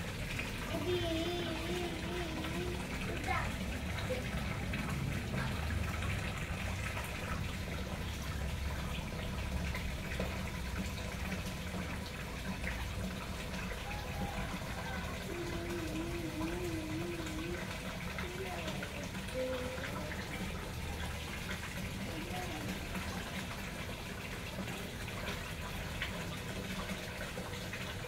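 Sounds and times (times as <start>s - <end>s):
water splashing into pond: 0.0s - 28.0s.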